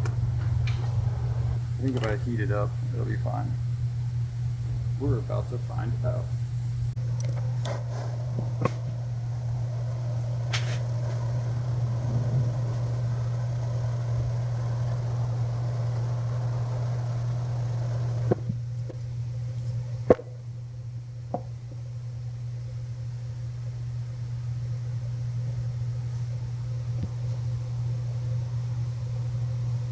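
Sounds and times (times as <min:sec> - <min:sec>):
heat tool humming and hissing: 0:00.0 - 0:29.9.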